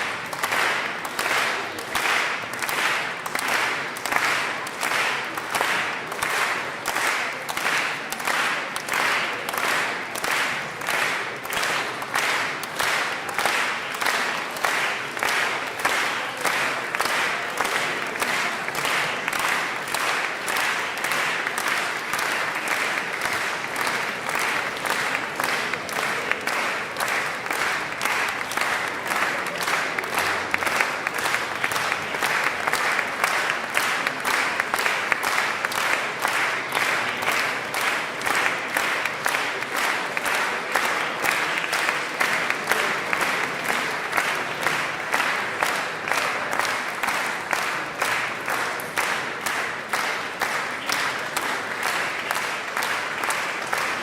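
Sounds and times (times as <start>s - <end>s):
audience rhythmic clapping: 0.0s - 54.0s.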